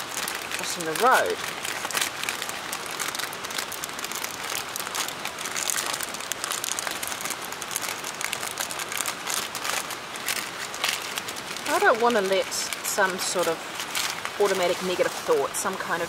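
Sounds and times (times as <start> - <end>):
plastic packet crinkling: 0.0 - 16.0
wood stove crackling: 0.0 - 16.0.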